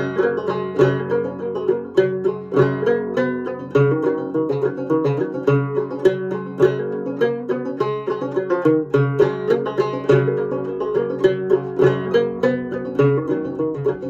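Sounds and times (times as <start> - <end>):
solo banjo playing: 0.0 - 14.0.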